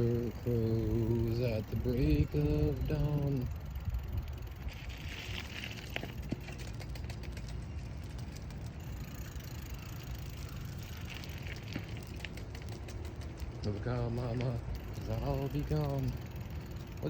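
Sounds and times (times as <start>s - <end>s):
low vehicle rumble: 0.0s - 17.0s.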